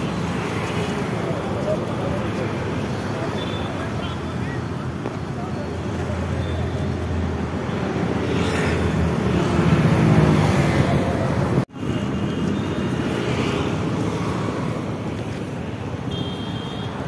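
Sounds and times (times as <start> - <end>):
passing vehicles: 0.0 - 17.0
wind: 0.0 - 17.0.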